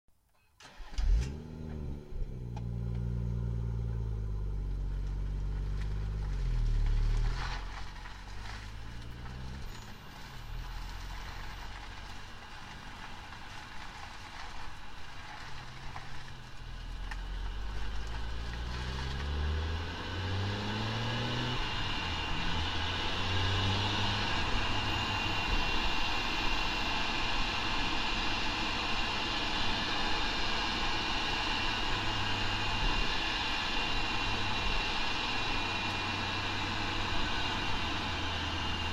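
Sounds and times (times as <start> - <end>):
low drivetrain tones: 0.6 - 26.9, 29.9 - 38.9
road noise: 0.6 - 38.9.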